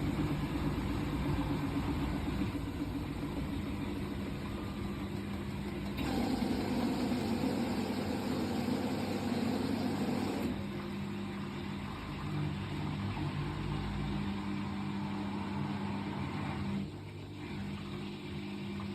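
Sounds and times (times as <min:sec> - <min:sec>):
washing machine motor hum: 0:00.0 - 0:18.9.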